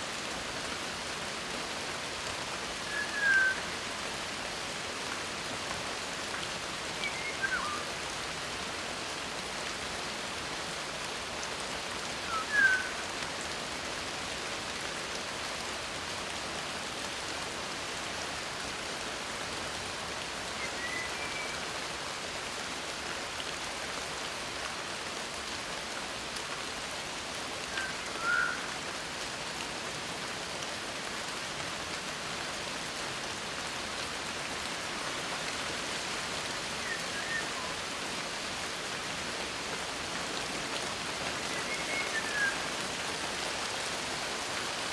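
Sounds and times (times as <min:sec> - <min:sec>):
rain hiss: 0:00.0 - 0:44.9.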